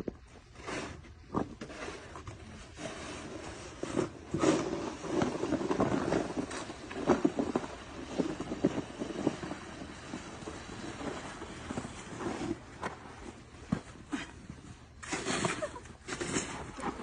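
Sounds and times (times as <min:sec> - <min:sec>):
snow crunching: 0:01.7 - 0:17.0.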